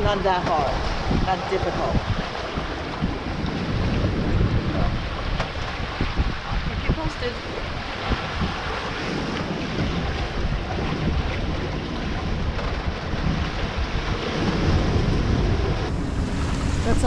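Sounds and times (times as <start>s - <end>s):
waves rushing along a hull: 0.0s - 17.0s
wind buffeting microphone: 0.0s - 17.0s.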